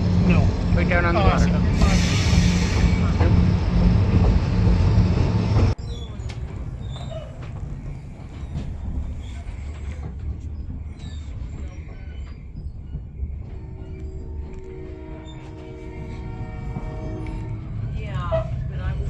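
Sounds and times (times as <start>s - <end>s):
railroad car rumbling on track: 0.0s - 19.0s.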